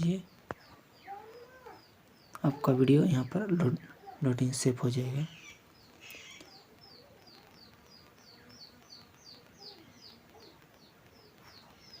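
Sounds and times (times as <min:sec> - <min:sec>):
bird high chirps: 0:00.0 - 0:04.2, 0:05.1 - 0:12.0.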